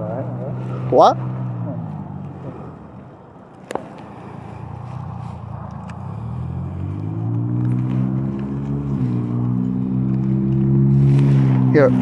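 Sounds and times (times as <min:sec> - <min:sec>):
car engine: 0:00.0 - 0:12.0.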